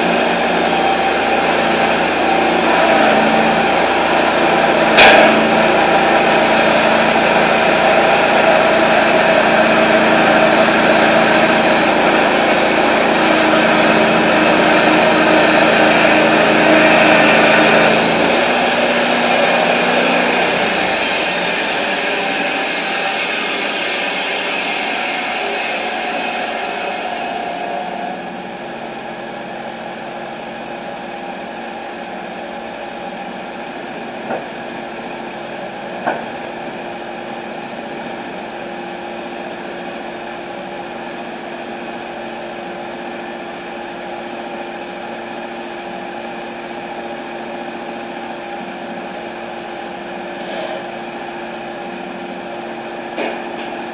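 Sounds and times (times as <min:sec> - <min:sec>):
band sawmill running: 0:00.0 - 0:53.9.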